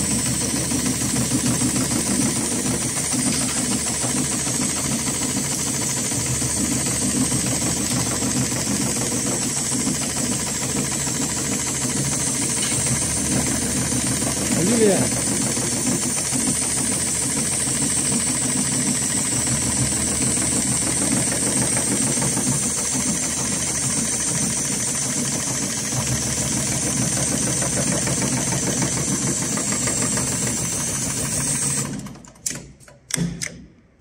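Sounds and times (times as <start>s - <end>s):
sewing machine needle knocking: 0.1s - 33.6s.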